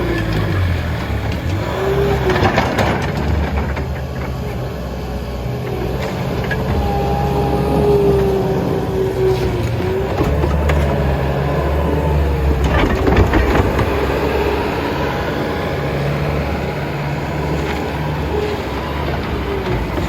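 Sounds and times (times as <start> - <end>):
clanks and knocks of debris: 0.0 - 7.4, 8.0 - 15.0, 15.9 - 20.0
skid steer engine whining: 0.0 - 20.0.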